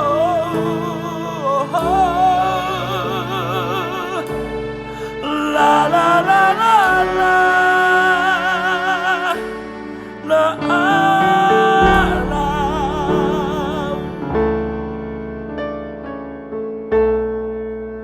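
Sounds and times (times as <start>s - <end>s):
person singing with vibrato: 0.0s - 14.6s
sustained keyboard chords: 0.0s - 16.3s.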